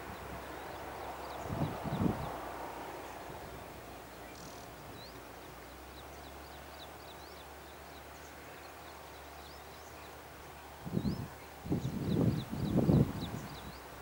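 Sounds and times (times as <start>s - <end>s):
faint outdoor hiss: 0.0s - 14.0s
small birds chirping: 0.0s - 14.0s.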